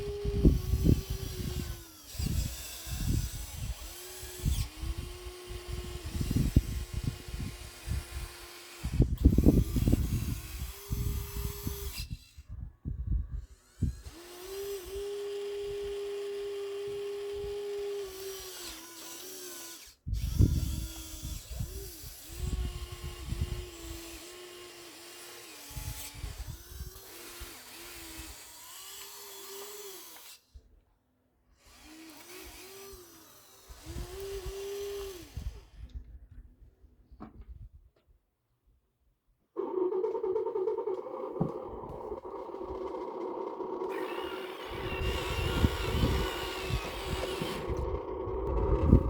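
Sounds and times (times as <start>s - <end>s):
small electric motors whining: 0.0s - 30.6s, 31.6s - 36.0s, 39.6s - 49.0s.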